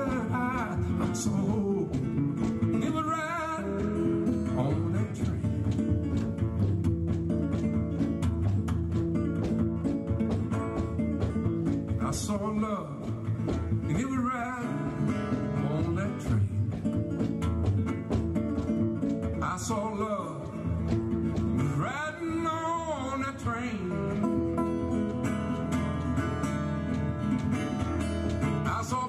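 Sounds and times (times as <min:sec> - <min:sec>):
fingerstyle acoustic blues guitar: 0:00.0 - 0:29.0.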